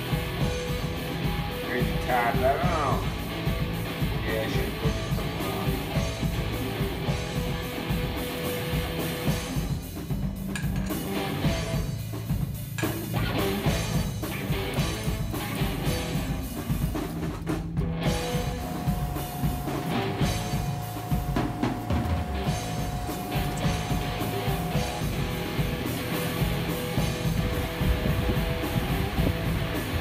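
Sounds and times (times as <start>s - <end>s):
rock music with drums and guitar: 0.0s - 30.0s.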